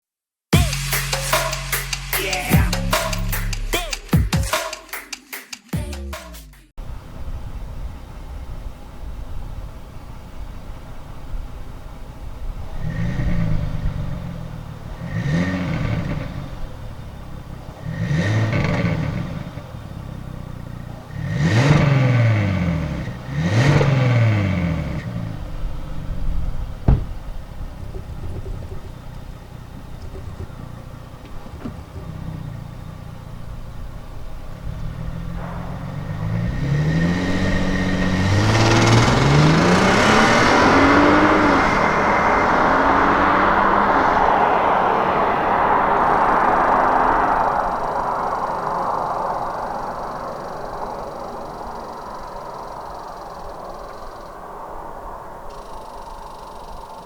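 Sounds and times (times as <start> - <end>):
car exhaust revving: 6.8 - 54.0.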